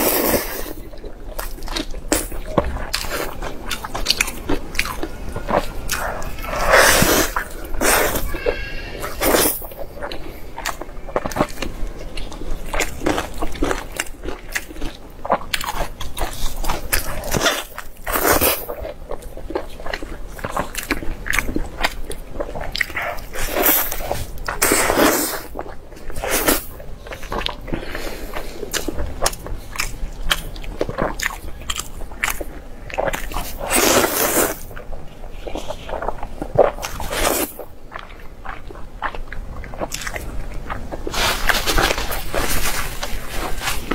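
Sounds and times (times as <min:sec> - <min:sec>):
wet chewing and lip-smacking: 0:00.1 - 0:08.4, 0:09.2 - 0:43.9.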